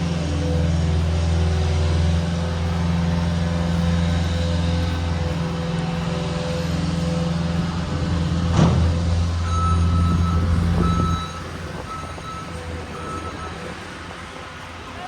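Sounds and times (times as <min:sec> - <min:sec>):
reversing alarm beeping: 0:00.0 - 0:14.6
heavy truck engine running: 0:00.0 - 0:15.0.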